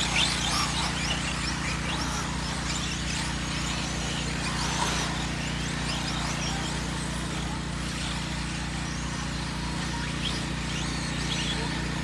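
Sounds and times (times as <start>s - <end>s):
rc truck motors whining: 0.0s - 12.0s
steady low hum: 0.0s - 12.0s.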